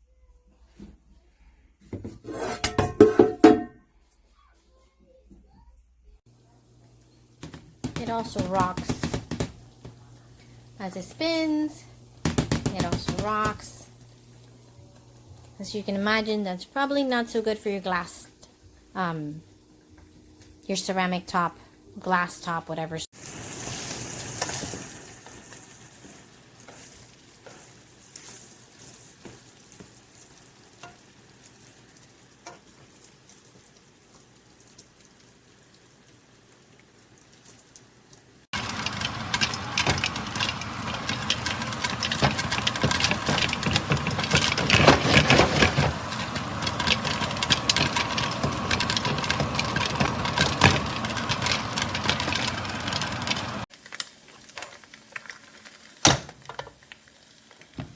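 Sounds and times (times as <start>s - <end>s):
food sizzling in a pan: 6.3s - 22.4s, 23.0s - 57.9s.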